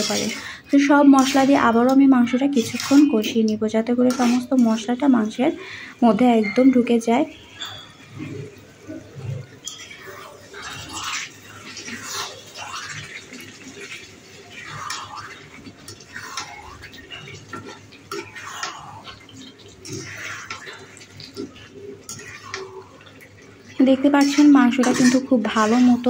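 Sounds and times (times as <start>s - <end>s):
spatula scraping a pan: 0.0s - 5.1s, 9.2s - 26.0s
food sizzling in a pan: 0.0s - 26.0s.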